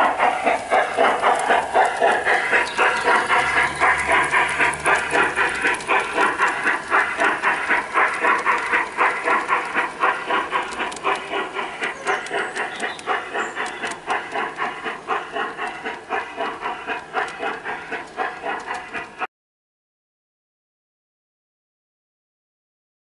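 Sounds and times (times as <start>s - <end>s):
model steam locomotive chuffing: 0.0s - 19.3s.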